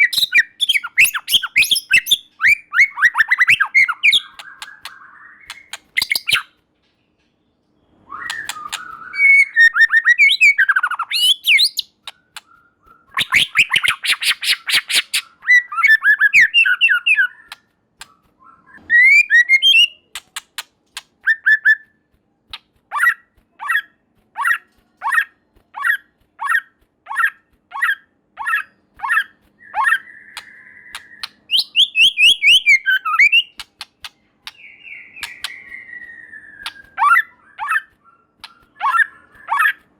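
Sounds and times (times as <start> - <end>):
bird singing varied phrases: 0.0 - 20.6, 22.9 - 39.9.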